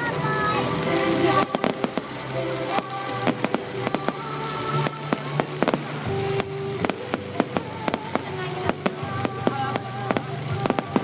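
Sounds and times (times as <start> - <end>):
fireworks bangs and crackles: 0.0 - 11.0
music with long held notes: 0.0 - 11.0.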